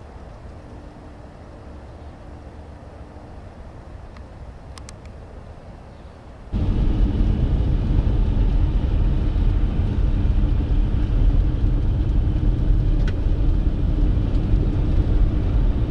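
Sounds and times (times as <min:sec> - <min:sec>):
vehicles driving on snowy highway: 0:00.0 - 0:15.9.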